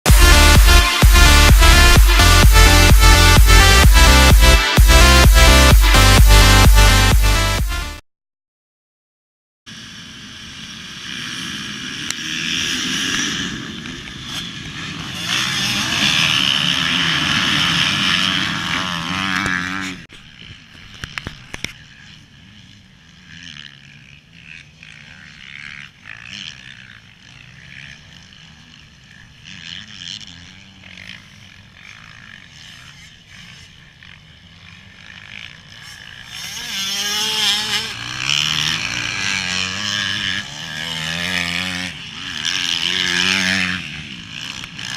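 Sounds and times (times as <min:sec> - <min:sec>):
motorcycle engine revving: 0:00.0 - 0:08.0, 0:09.7 - 0:44.9.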